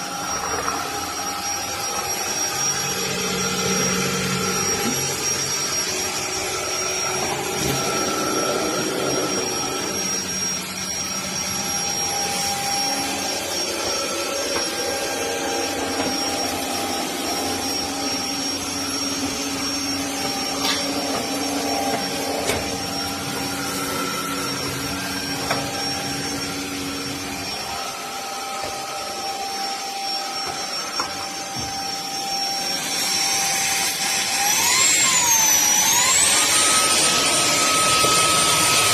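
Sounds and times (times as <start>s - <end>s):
stick vacuum motor whine: 0.0s - 38.9s.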